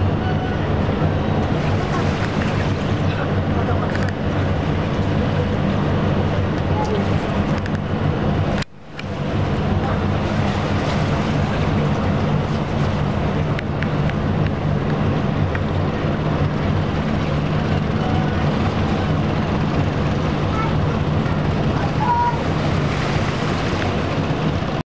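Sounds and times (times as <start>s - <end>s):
boat engine humming: 0.0s - 24.8s
water wash: 0.0s - 24.8s.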